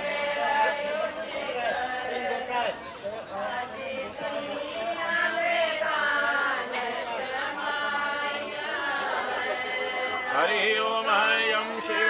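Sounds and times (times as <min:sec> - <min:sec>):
group singing in unison: 0:00.0 - 0:02.7, 0:03.3 - 0:12.0.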